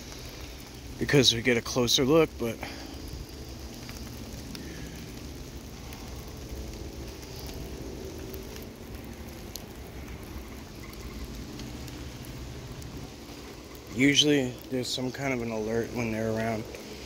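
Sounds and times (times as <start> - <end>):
low steady rumble: 0.0 - 17.0
rain falling: 0.0 - 17.0
raindrops ticking: 0.0 - 17.0.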